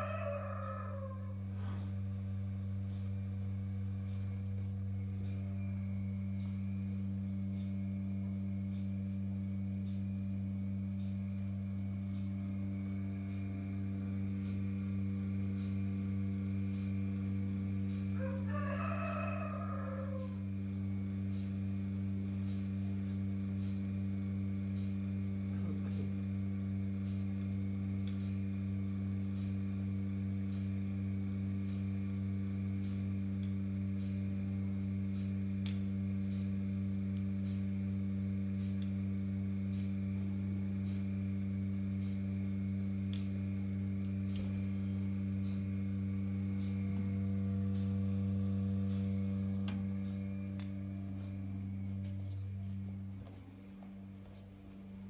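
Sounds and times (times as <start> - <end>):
milking machine vacuum pump hum: 0.0 - 55.0
pulsator clicking: 0.0 - 55.0.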